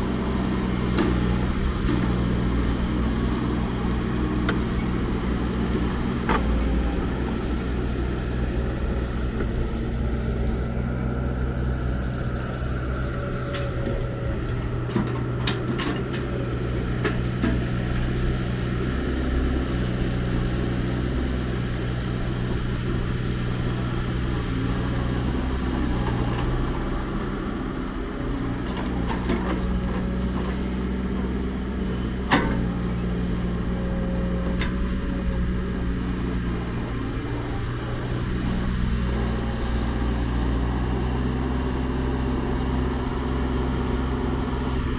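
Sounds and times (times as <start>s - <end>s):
heavy machinery diesel engine: 0.0s - 44.9s.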